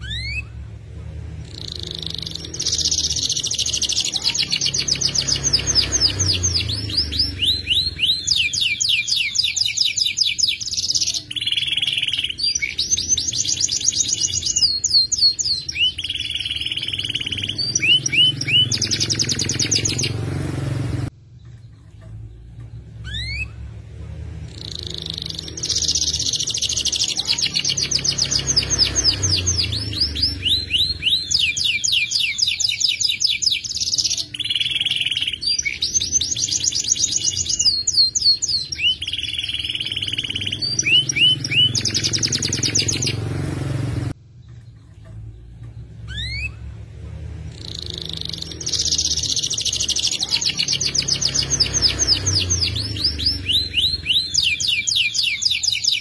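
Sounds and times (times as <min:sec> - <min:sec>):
canary singing rolling trills: 0:00.0 - 0:56.0.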